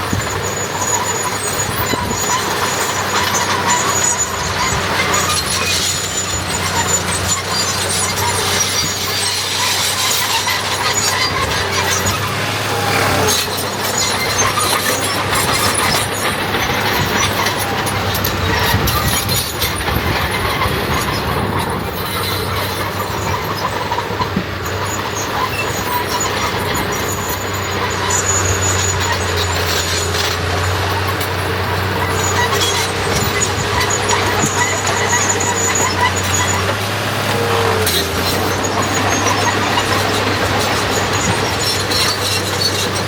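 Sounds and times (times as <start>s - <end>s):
diesel machinery engine hum: 0.0s - 43.0s
machinery clanking and rattling: 0.0s - 43.0s.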